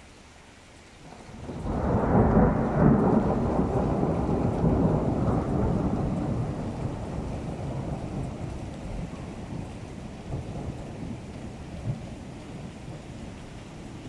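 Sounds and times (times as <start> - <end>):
thunder rolling: 1.3 - 14.0.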